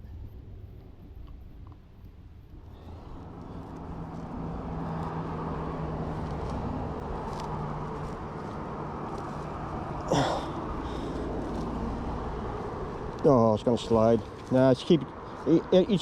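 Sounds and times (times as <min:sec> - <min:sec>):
low engine hum: 0:00.0 - 0:16.0
road traffic rumble: 0:00.0 - 0:16.0.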